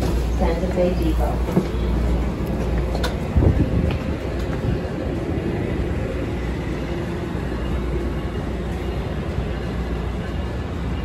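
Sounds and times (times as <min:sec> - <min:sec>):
train rumbling at standstill: 0:00.0 - 0:11.0.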